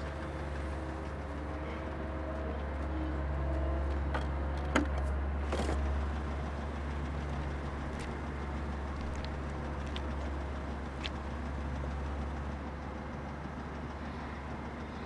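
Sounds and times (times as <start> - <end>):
car engine idling: 0.0 - 2.8, 5.2 - 15.0.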